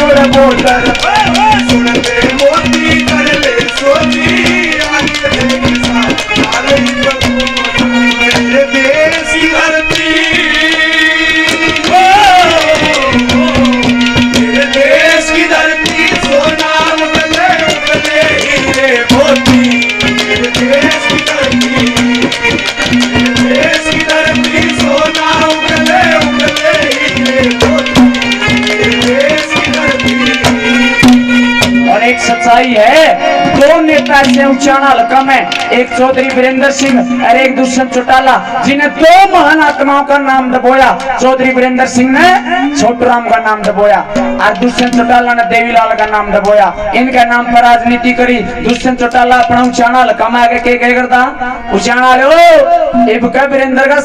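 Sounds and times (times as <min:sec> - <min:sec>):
hand drum busy rhythm: 0:00.0 - 0:50.4.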